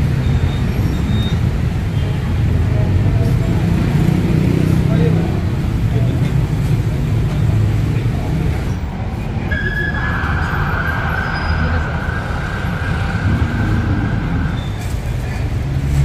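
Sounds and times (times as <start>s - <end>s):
street traffic rumbling: 0.0s - 16.0s.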